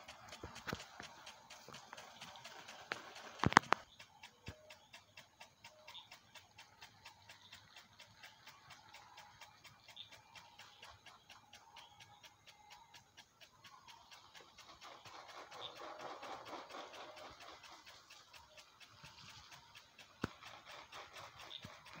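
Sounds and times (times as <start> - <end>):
impact sprinkler ticking: 0.0 - 22.0.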